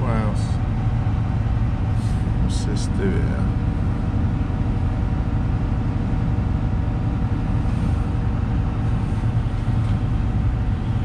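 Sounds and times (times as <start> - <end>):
diesel engine idling: 0.0 - 11.0
faint steady hum: 0.0 - 11.0.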